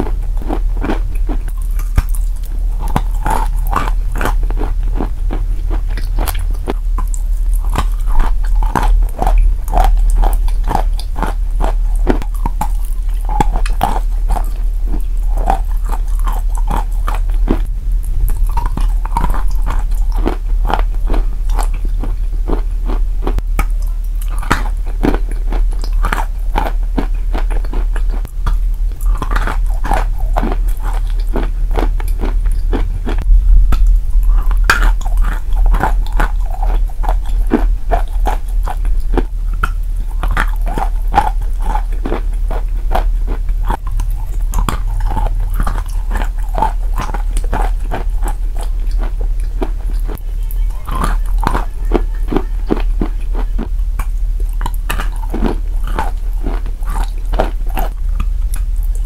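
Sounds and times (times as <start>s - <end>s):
chalk crunching and chewing: 0.0s - 59.0s.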